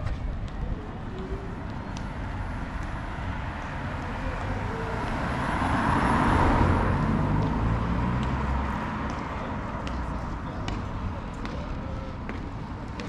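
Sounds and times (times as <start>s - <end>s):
car tyre and road noise: 0.0s - 13.0s.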